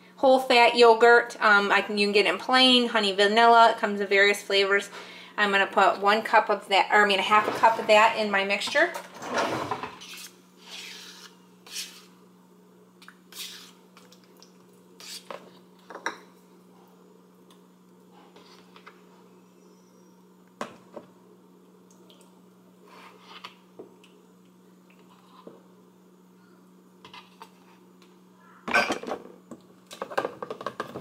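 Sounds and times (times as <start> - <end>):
steady low hum: 0.0 - 30.1.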